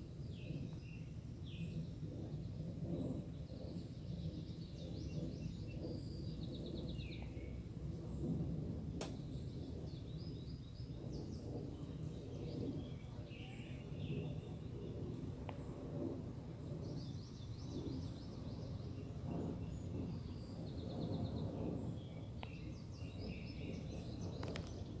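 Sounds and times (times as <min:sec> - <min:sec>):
birds chirping and trilling: 0:00.0 - 0:08.3, 0:09.1 - 0:25.0
steady low rumble: 0:00.0 - 0:25.0.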